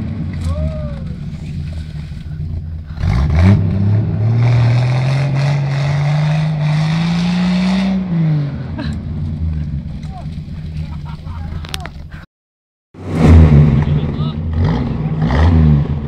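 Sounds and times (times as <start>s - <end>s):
car engine revving under load: 0.0s - 11.8s, 13.0s - 16.0s.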